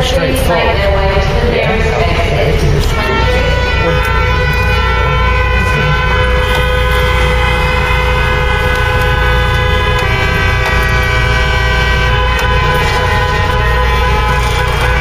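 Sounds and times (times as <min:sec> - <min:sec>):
car engine droning with whine: 0:00.0 - 0:15.0.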